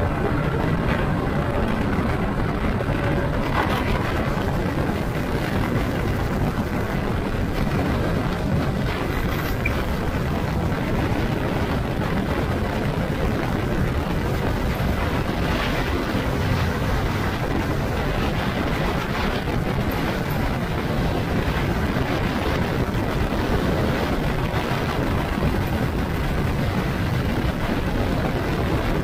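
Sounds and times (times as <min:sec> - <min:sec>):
vehicle running and wind noise: 0:00.0 - 0:29.0.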